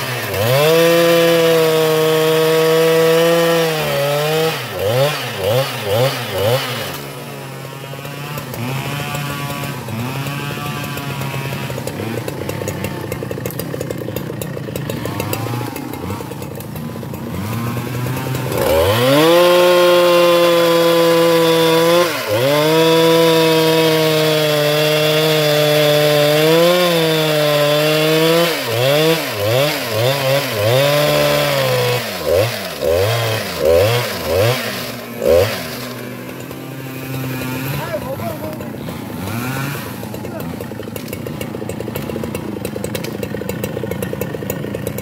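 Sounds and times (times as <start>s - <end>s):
chainsaw cutting hard wood: 0.0s - 45.0s.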